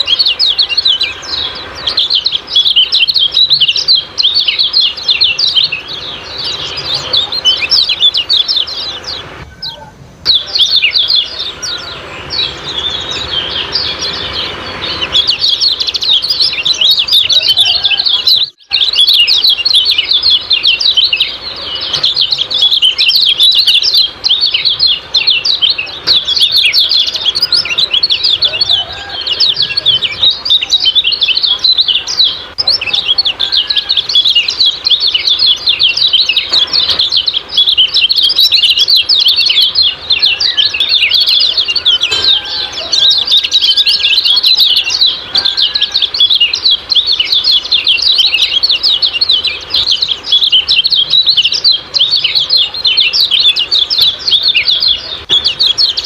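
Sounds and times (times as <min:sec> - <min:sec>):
bird chirping rapidly: 0:00.0 - 0:56.0.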